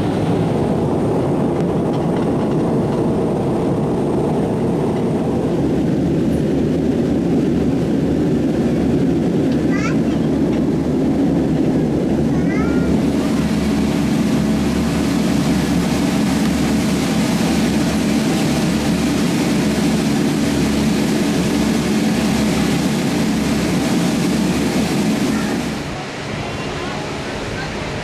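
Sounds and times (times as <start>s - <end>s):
propeller engines droning: 0.0s - 28.0s.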